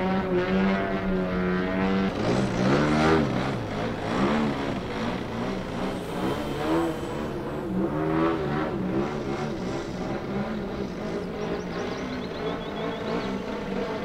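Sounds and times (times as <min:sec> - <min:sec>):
model plane engine flying overhead: 0:00.0 - 0:14.0.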